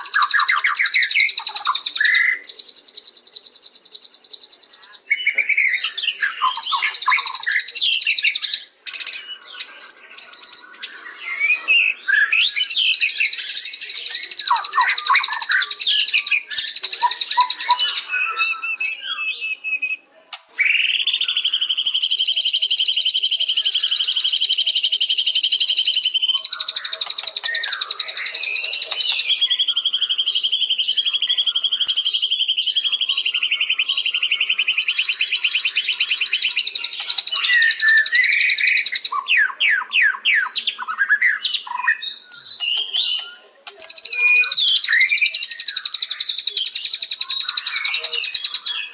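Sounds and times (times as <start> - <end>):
bird singing whistled phrases: 0.0 - 48.9
bird trilling: 0.0 - 48.9.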